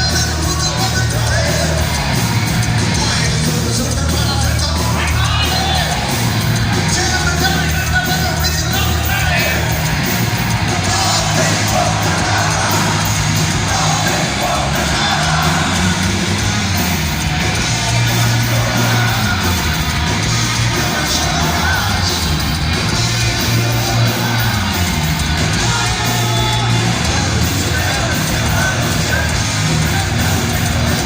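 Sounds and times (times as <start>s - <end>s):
heavy metal band playing live: 0.0s - 31.0s
voices yelling and singing: 0.0s - 31.0s.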